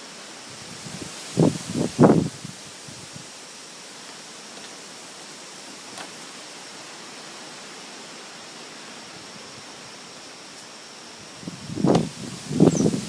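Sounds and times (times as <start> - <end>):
strong wind through trees: 0.0 - 13.0.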